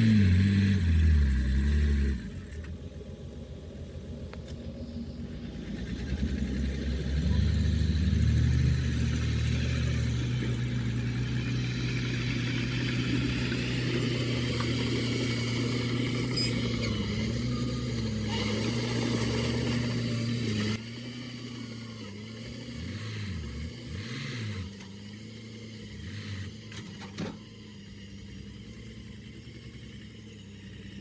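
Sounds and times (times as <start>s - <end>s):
heavy diesel engine revving: 0.0s - 31.0s.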